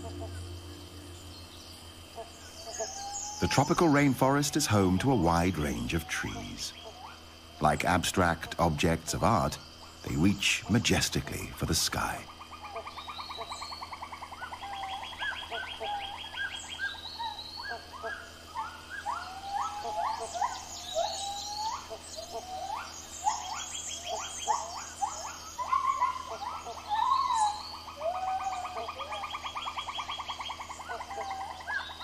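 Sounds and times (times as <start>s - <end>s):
birds whistling calls: 0.0s - 32.0s
rapid trilling calls: 0.0s - 32.0s.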